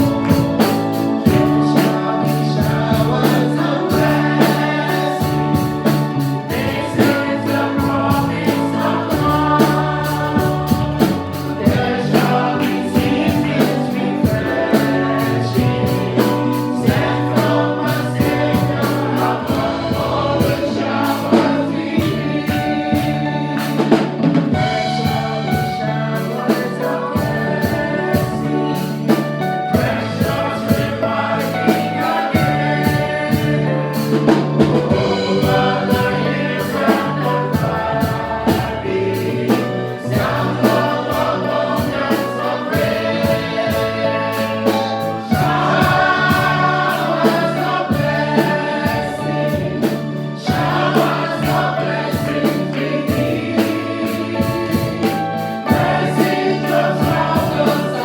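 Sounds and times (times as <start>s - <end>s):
band playing: 0.0s - 58.0s
bass line: 0.0s - 58.0s
choir singing: 0.0s - 58.0s
drums keeping a steady beat: 0.0s - 58.0s.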